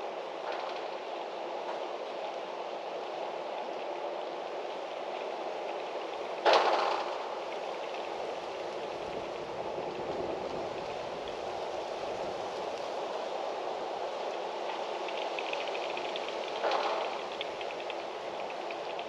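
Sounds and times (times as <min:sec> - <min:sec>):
wind blowing through trees: 0:00.0 - 0:19.0.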